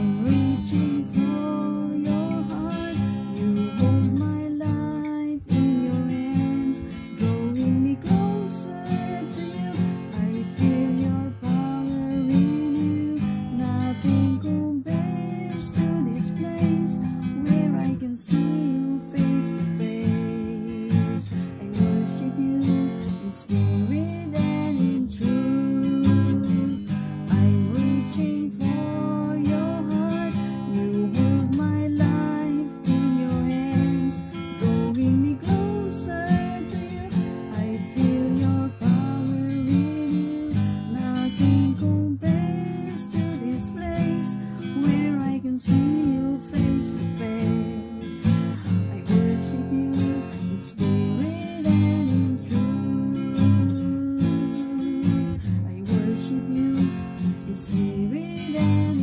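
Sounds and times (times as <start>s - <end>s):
acoustic guitar strumming: 0.0s - 59.0s
woman singing: 0.0s - 59.0s.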